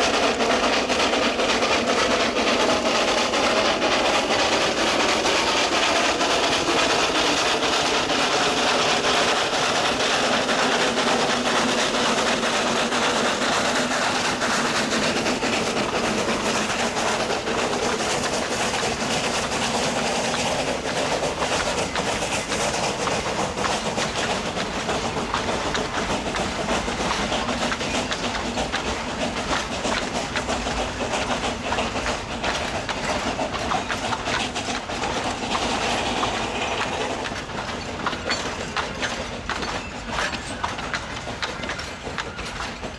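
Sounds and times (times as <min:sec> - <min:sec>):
steam train running: 0:00.0 - 0:42.9
wheels clattering over rails: 0:00.0 - 0:42.9.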